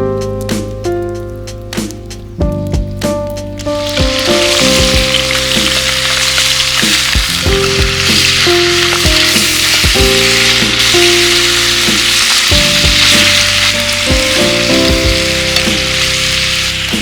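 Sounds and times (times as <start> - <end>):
plucked background music: 0.0 - 17.0
ribs sizzling in hot fat: 0.0 - 17.0.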